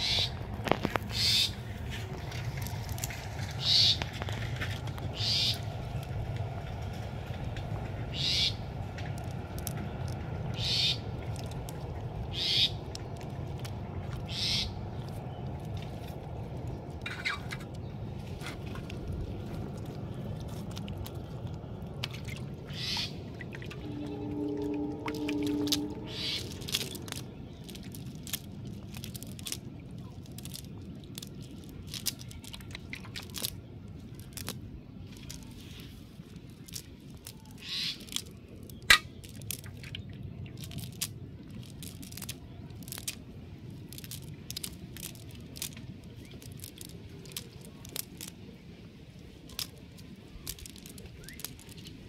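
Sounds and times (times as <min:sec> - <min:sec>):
fishing net rustling: 0:00.0 - 0:05.2, 0:14.9 - 0:52.0.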